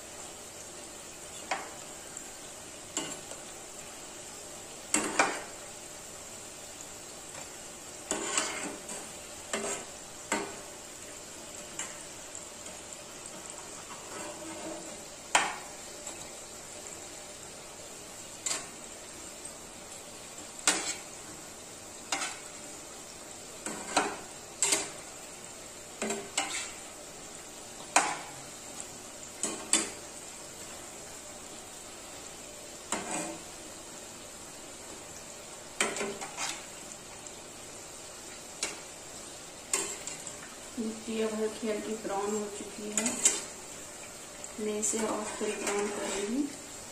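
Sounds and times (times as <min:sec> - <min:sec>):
oil sizzling: 0:00.0 - 0:46.9.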